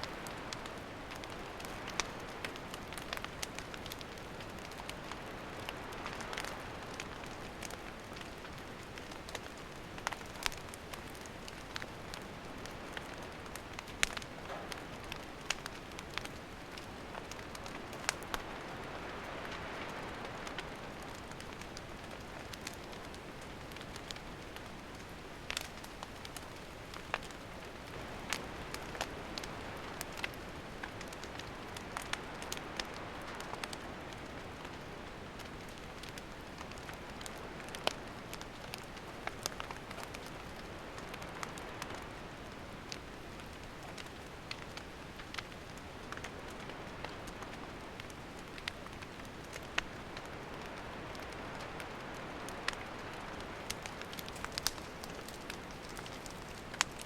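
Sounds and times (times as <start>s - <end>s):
fire crackling and popping: 0.0s - 57.0s
wood fire hissing: 0.0s - 57.0s.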